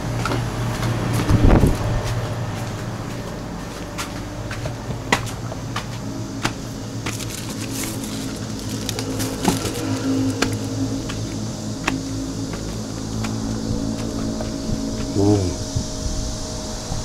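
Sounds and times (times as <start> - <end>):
footsteps on concrete stairs: 0.0 - 15.2
steady low hum: 0.0 - 17.0.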